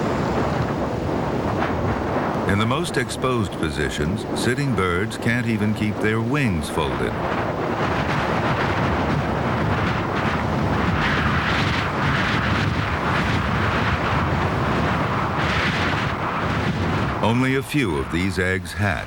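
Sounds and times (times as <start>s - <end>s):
gale wind on microphone: 0.0s - 19.0s.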